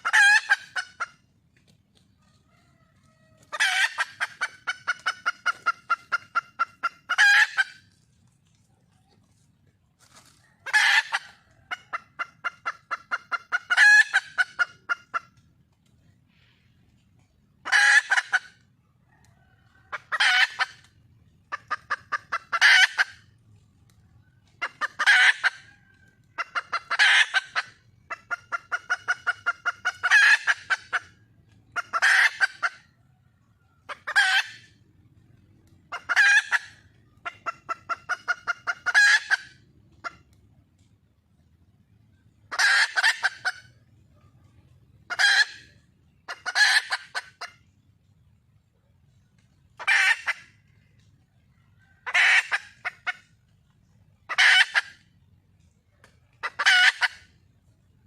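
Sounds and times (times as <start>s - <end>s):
junglefowl hen clucking calls: 0.0s - 58.0s.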